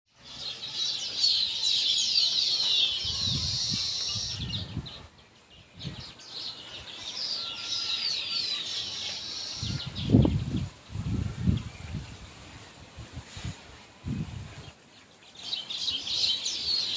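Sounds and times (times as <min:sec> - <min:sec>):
small birds chirping: 0:00.1 - 0:16.9.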